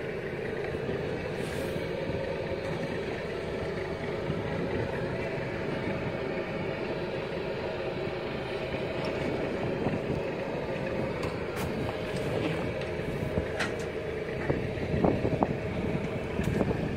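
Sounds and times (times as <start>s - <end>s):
motorboat engine running: 0.0s - 16.9s
water noise: 0.0s - 16.9s
wind: 0.0s - 16.9s.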